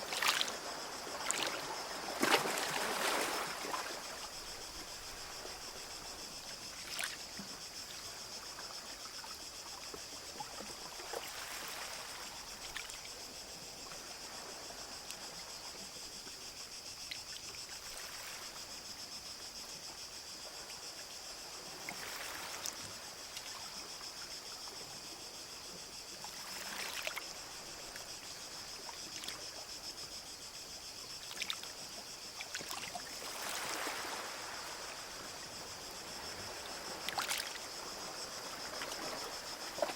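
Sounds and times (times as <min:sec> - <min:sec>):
small waves lapping on shore: 0:00.0 - 0:16.4, 0:17.0 - 0:19.0, 0:20.4 - 0:39.9.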